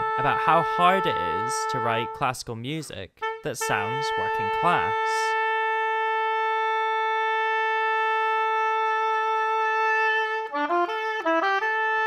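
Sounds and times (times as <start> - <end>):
oboe holding long note: 0.0 - 2.3, 3.2 - 12.0.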